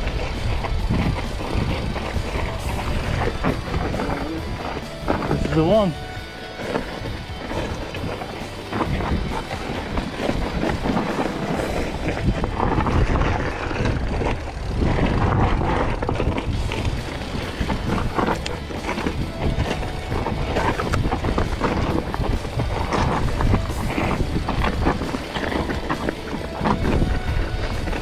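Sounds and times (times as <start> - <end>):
bike rattling over bumps: 0.0 - 28.0
tyres crunching over dirt and stones: 0.0 - 28.0
wind buffeting microphone: 0.0 - 28.0.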